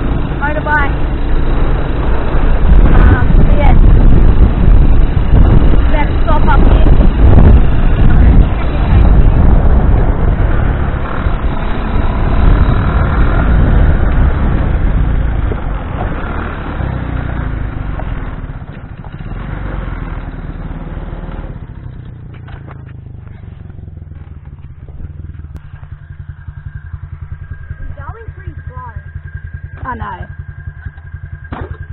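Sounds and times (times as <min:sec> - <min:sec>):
off-road buggy engine running: 0:00.0 - 0:31.9.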